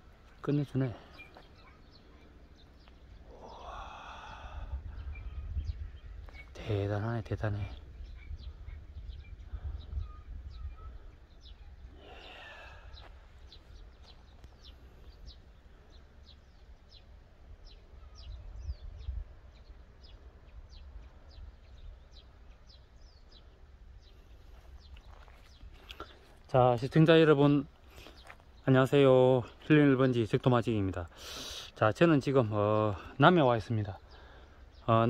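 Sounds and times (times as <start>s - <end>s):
small bird chirping: 0.0s - 30.8s.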